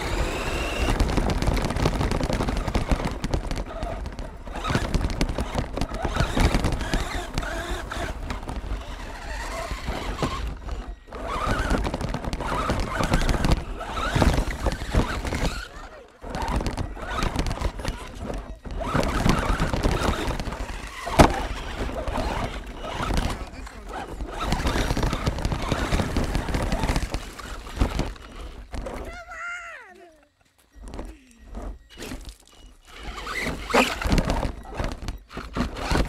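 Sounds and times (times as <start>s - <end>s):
toy truck rattling over gravel: 0.0s - 29.3s, 30.2s - 36.0s.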